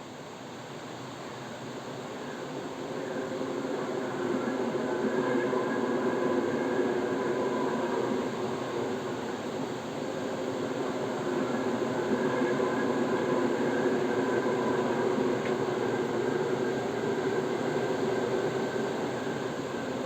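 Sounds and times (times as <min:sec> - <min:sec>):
train rumbling: 0:02.0 - 0:20.0.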